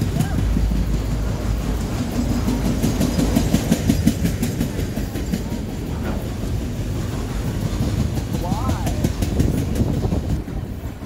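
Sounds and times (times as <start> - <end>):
train rumble: 0.0 - 11.0
train wheels clacking on rail joints: 0.0 - 11.0.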